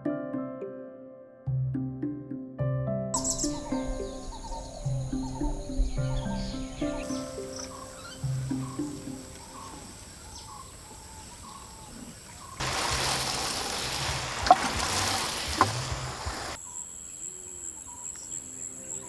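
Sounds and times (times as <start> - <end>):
birds chirping: 3.2 - 19.0.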